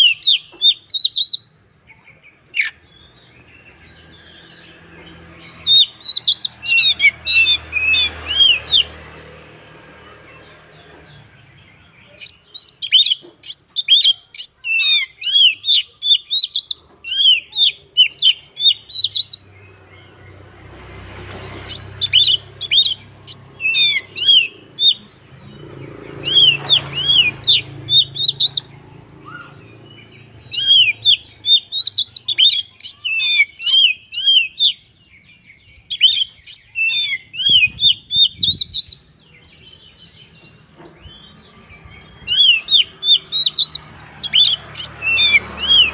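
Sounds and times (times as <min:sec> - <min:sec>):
bird singing sharp chirps: 0:00.0 - 0:45.9.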